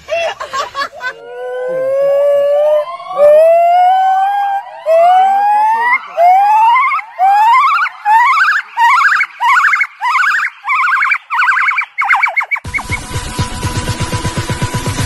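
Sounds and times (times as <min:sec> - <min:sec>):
primate hooting and whooping: 0:00.9 - 0:13.0.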